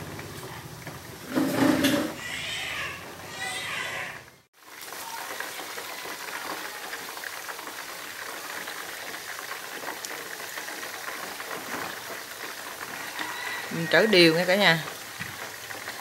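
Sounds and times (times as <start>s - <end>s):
chicken frying in oil: 0.0s - 16.0s.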